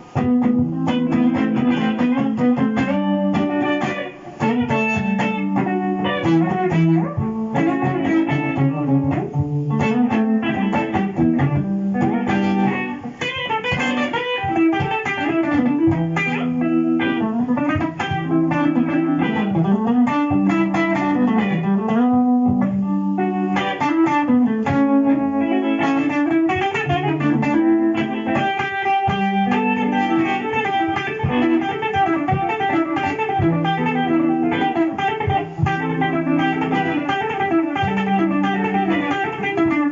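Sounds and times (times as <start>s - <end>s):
electric guitar jazzy melody: 0.0s - 39.9s
looped guitar backing: 0.0s - 39.9s.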